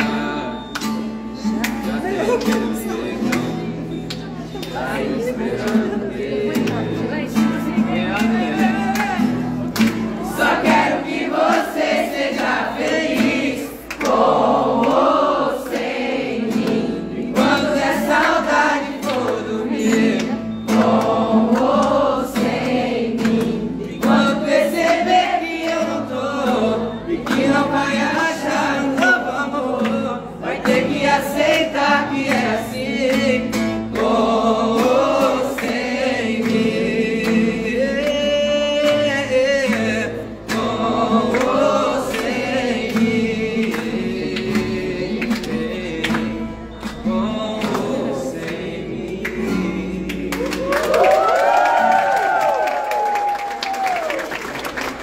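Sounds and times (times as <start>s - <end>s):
strummed acoustic guitar: 0.0s - 50.6s
group of voices singing: 0.0s - 52.4s.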